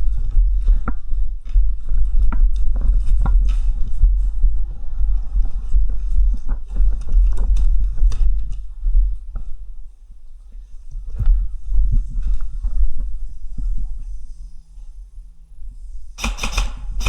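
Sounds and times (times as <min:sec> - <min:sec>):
low rumble of camera shaking: 0:00.0 - 0:17.0.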